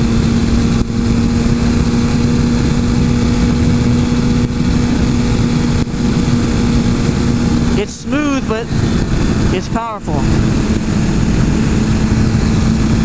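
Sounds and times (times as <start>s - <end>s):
heavy wind noise: 0.0s - 13.0s
motorcycle engine running: 0.0s - 13.0s.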